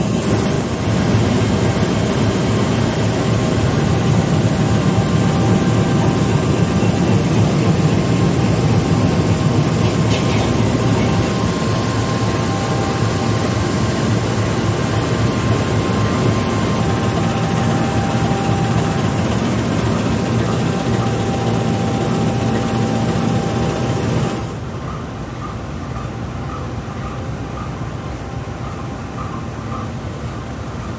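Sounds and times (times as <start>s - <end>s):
diesel locomotive idling: 0.0s - 30.9s
faint steady whine: 0.0s - 30.9s.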